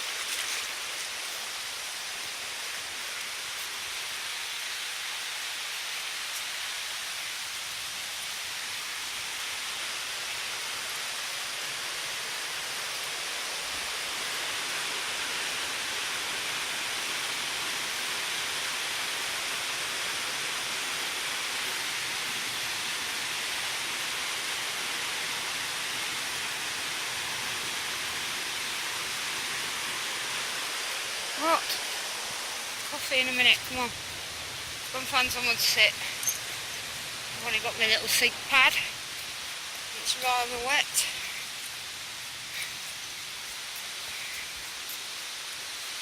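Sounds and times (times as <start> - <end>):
fast-running river water: 0.0 - 46.0.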